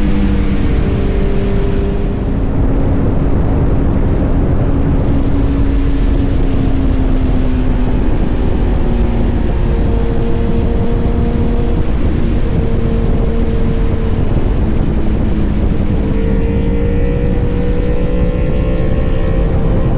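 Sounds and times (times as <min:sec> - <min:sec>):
motorcycle engine cruising: 0:00.0 - 0:19.9
wind rush on microphone: 0:00.0 - 0:19.9.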